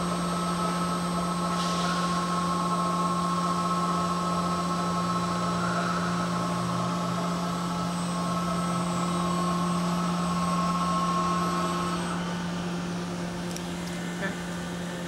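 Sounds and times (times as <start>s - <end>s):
high machine whine: 0.0s - 15.0s
steady machine hum: 0.0s - 15.0s.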